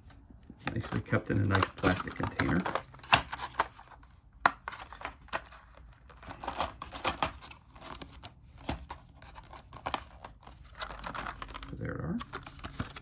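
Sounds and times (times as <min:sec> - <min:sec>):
plastic container crinkling: 0:00.7 - 0:03.8, 0:04.6 - 0:13.0.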